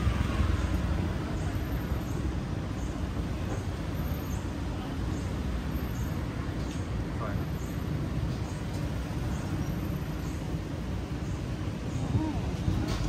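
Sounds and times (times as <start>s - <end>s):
passing traffic: 0.0s - 13.0s.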